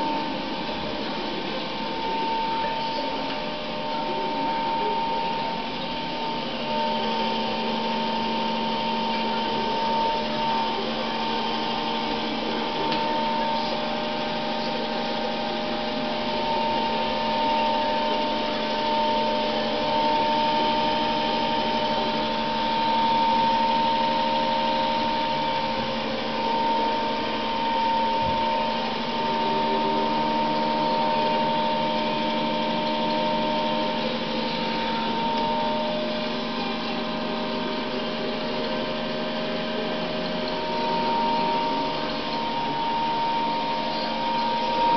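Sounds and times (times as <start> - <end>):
robot vacuum cleaner whirring: 0.0 - 44.9.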